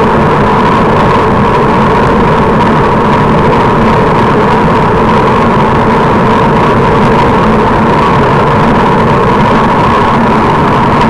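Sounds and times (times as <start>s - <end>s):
constant low hum: 0.0s - 11.0s
wind and road noise: 0.0s - 11.0s.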